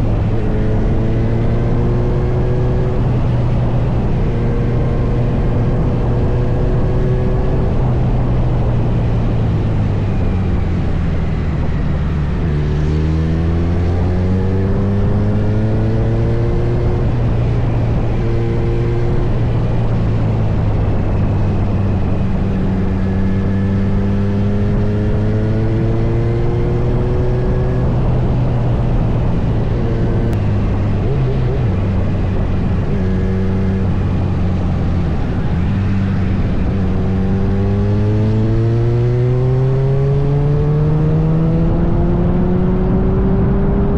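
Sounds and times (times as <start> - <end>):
motorcycle engine accelerating: 0.0 - 43.9
wind rushing over microphone: 0.0 - 43.9.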